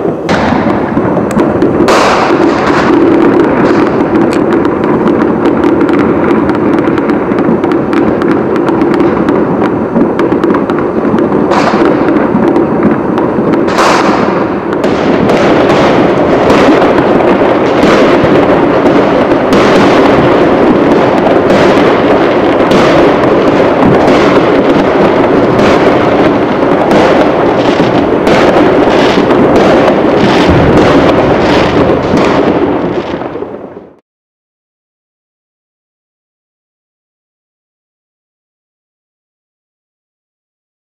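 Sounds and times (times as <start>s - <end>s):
fireworks and firecrackers banging: 0.0s - 34.0s.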